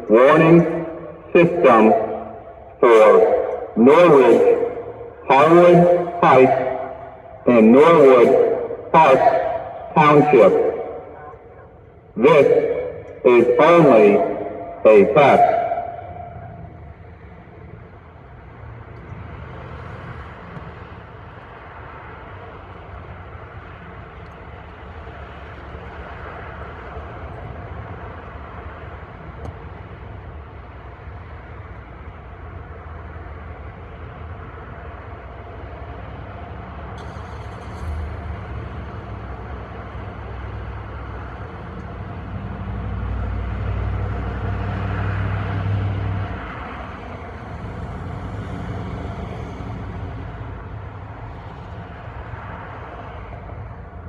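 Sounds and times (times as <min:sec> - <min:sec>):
passing road traffic: 0:00.0 - 0:54.0.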